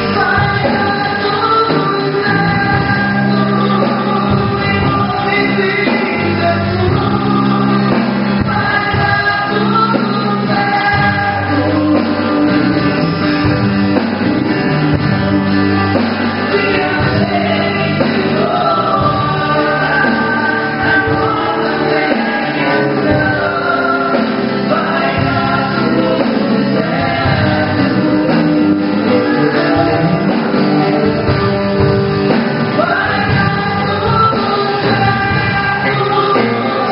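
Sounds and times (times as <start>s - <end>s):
instrumental accompaniment: 0.0s - 36.9s
singers performing gospel song: 0.0s - 36.9s.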